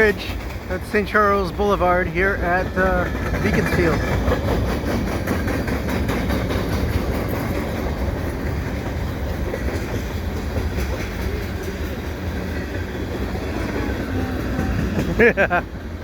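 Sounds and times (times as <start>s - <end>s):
steel wheels rumbling on rail: 0.0s - 16.0s
wheels clacking over rail joints: 0.0s - 16.0s.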